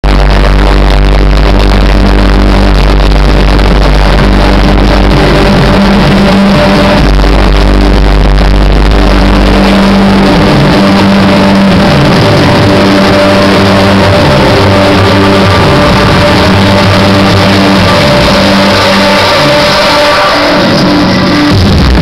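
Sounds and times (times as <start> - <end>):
heavy bass: 0.0 - 22.0
loud dance music with sustained notes: 0.0 - 22.0.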